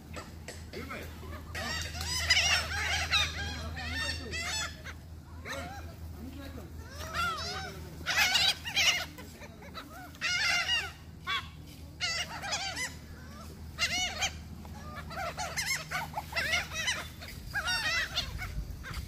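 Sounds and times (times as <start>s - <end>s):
gulls yelping calls: 0.0s - 19.0s
low steady rumble: 0.0s - 19.0s.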